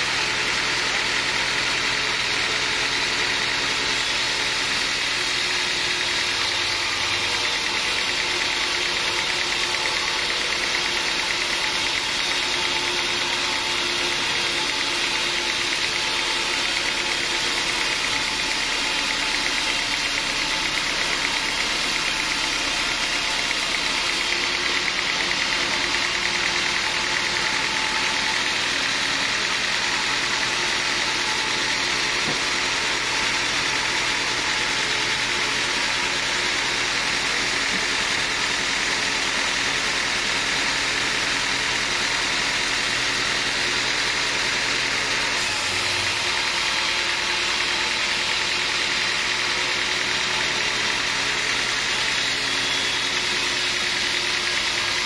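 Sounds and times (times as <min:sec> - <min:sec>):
sawmill machinery drone and hiss: 0:00.0 - 0:55.0.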